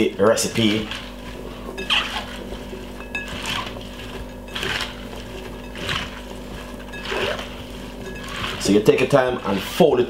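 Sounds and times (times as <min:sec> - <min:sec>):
salad rustling in bowl: 0:00.0 - 0:09.8
steady low hum: 0:00.0 - 0:10.0.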